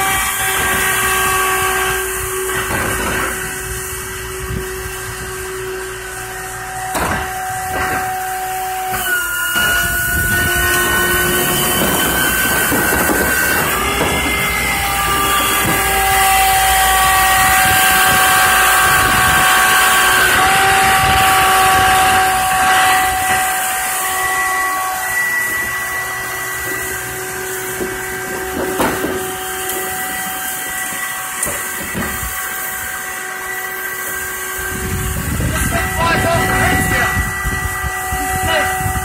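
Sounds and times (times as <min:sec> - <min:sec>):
garbage truck machinery whining: 0:00.0 - 0:39.0.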